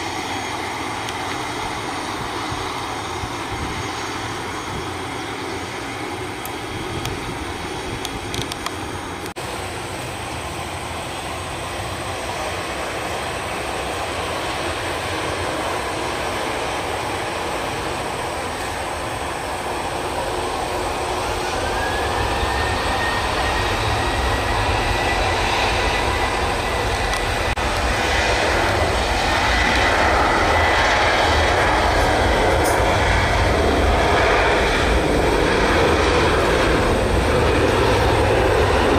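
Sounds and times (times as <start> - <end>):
jet aircraft rolling on runway: 0.0 - 38.9
jet engine whine: 0.0 - 38.9
jet engines rushing: 0.0 - 38.9.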